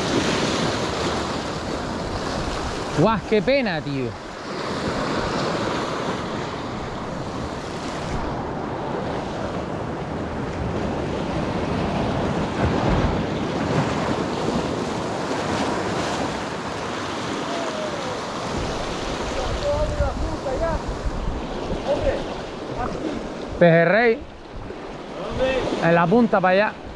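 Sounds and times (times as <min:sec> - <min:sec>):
sea waves breaking on rocks: 0:00.0 - 0:26.9
wind buffeting microphone: 0:04.1 - 0:25.8.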